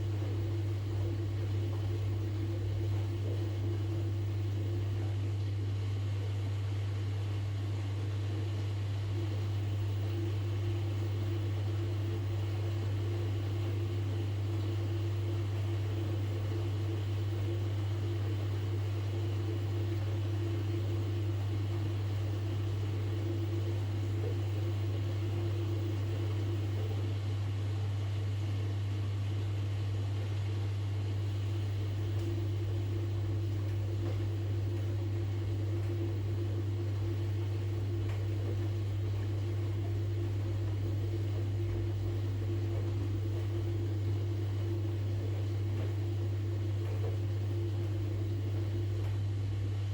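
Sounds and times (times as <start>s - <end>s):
washing machine motor hum: 0.0s - 49.9s.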